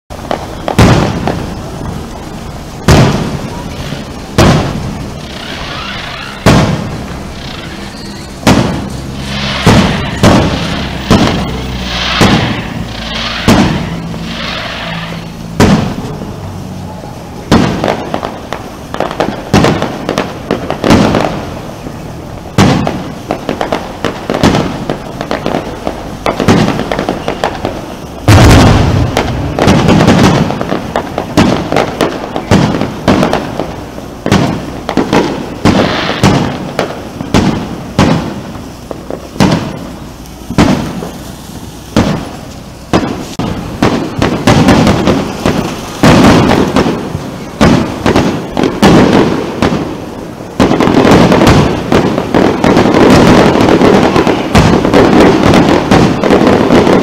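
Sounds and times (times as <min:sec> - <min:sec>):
rapid crackling fireworks: 0:00.0 - 0:57.0
fireworks bangs: 0:00.1 - 0:57.0.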